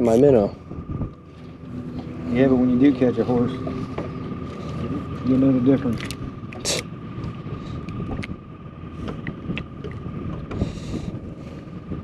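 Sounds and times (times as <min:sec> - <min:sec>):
wind buffeting microphone: 0:00.3 - 0:12.0.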